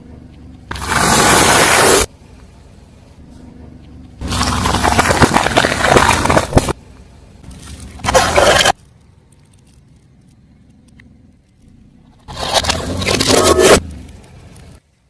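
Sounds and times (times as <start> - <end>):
car tyre crushing things: 0.2 - 15.0.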